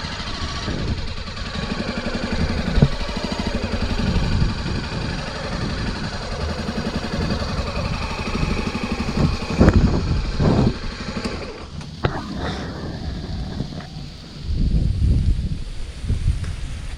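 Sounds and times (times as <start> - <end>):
motorcycle engine idling: 0.0 - 16.8.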